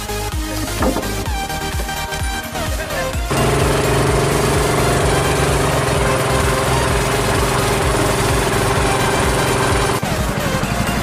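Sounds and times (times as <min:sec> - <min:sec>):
boat engine running: 0:00.3 - 0:11.0.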